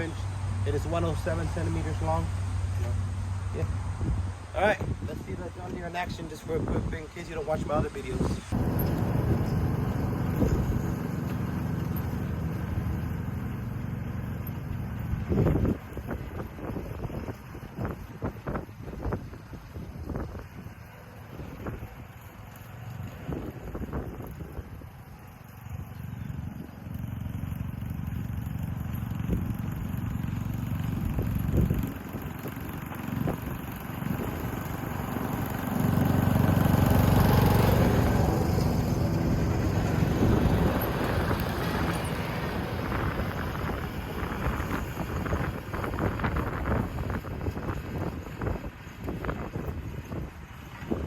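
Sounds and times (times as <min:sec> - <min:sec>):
riding lawn mower engine rumbling: 0:00.0 - 0:51.0.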